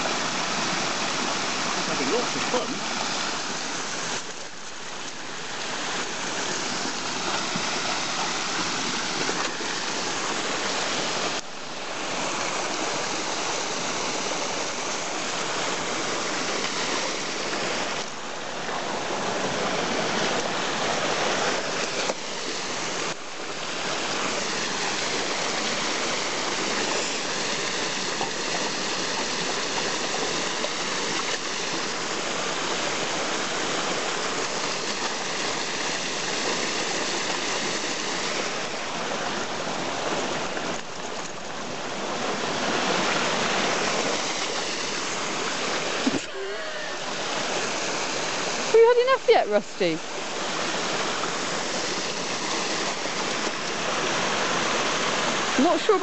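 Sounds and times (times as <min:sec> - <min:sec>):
water rushing over a cascade: 0:00.0 - 0:56.0.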